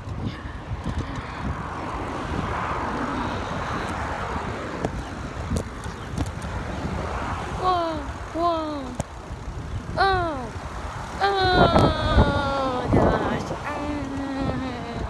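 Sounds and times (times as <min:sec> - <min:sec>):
vehicle passing by: 0:00.0 - 0:15.0
wind rumble on microphone: 0:00.0 - 0:15.0.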